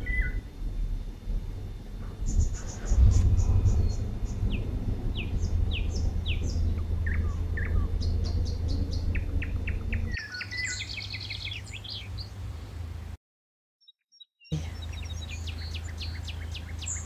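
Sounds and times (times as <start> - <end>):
small birds chirping: 0.0 - 0.5, 2.2 - 12.8, 13.8 - 17.0
steady low rumble: 0.0 - 13.2, 14.6 - 17.0.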